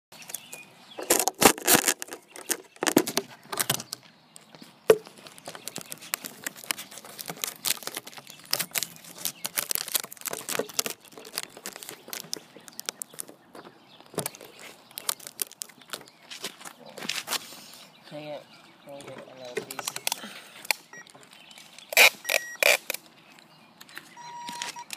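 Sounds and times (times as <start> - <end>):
close rustling and crinkling: 0.2 - 24.9.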